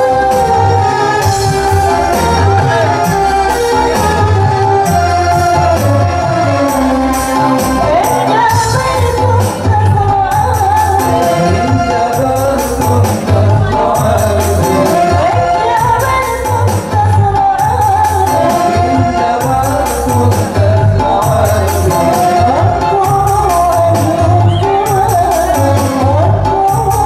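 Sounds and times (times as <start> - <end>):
electronic keyboard: 0.0 - 27.0
hand percussion with tambourine: 0.0 - 27.0
pulsing bass: 0.0 - 27.0
woman singing: 0.0 - 27.0.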